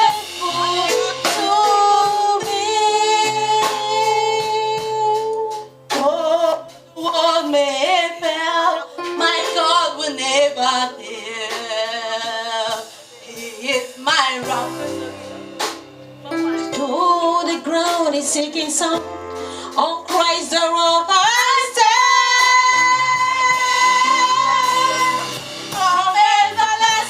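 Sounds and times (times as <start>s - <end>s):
person singing with vibrato: 0.0s - 15.7s, 16.3s - 27.0s
gospel worship song: 0.0s - 27.0s.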